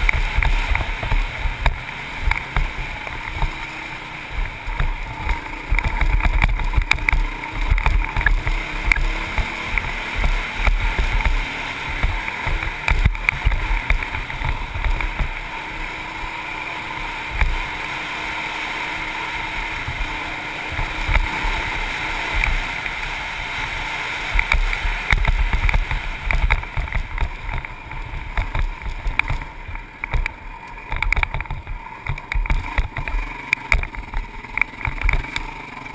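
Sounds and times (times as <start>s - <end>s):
wind buffeting camera: 0.0s - 17.9s, 18.9s - 35.9s
dirt bike engine running: 0.0s - 35.9s.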